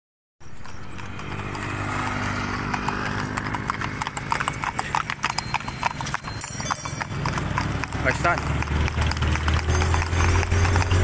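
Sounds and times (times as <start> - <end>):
horse hooves clip-clopping: 0.4 - 11.0.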